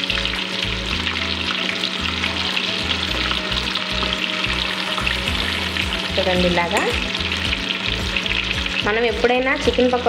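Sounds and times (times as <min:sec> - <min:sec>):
deep-frying in hot oil: 0:00.0 - 0:10.0.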